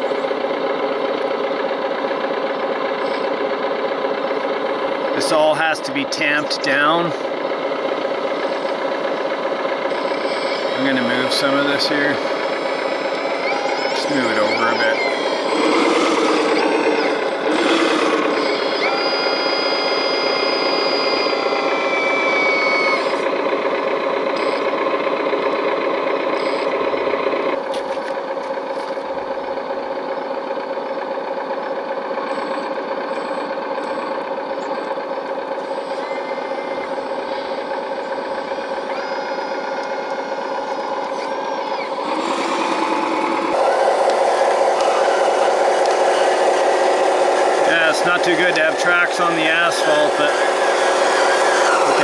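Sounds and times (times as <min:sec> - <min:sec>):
electric motor and hydraulic pump whining: 0:00.0 - 0:52.0.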